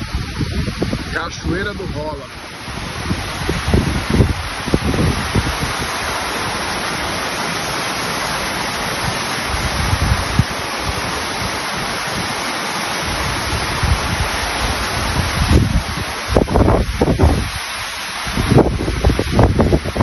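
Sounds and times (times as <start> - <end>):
waterfall rushing over rocks: 0.0 - 20.0
wind buffeting microphone: 0.0 - 20.0.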